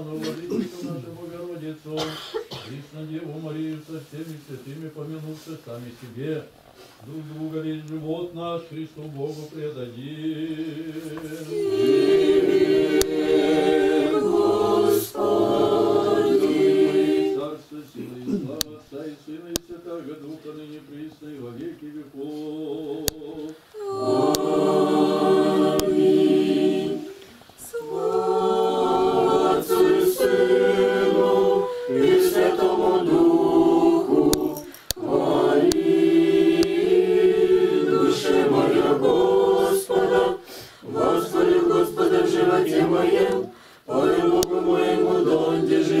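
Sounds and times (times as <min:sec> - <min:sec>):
congregation singing chant: 0:07.2 - 0:46.0.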